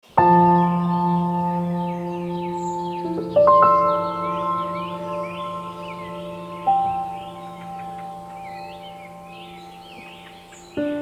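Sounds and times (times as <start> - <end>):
faint bird chirps: 0.1 - 11.0.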